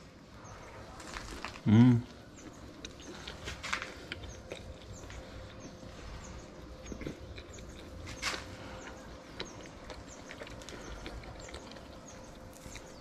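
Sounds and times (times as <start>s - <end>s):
person chewing with mouth clicks: 1.3s - 5.7s, 6.7s - 13.0s.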